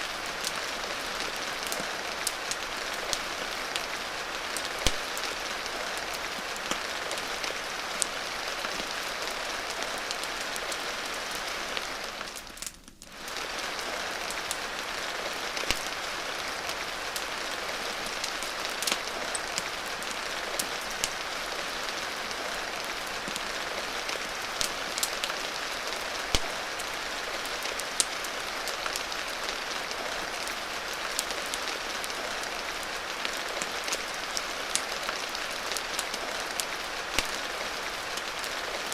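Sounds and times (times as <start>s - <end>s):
fire crackling: 0.0s - 38.9s
steady rain hiss: 0.0s - 38.9s.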